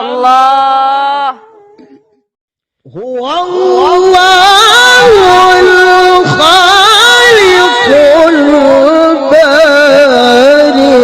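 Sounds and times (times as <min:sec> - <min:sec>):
man reciting in melodic chant: 0:00.0 - 0:02.2, 0:02.8 - 0:11.0.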